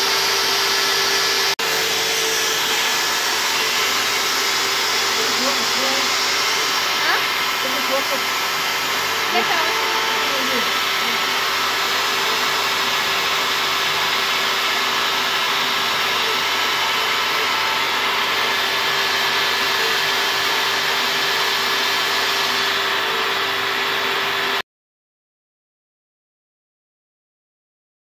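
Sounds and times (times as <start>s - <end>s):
dust extraction vacuum: 0.0s - 24.6s
router spindle carving wood: 0.0s - 24.6s.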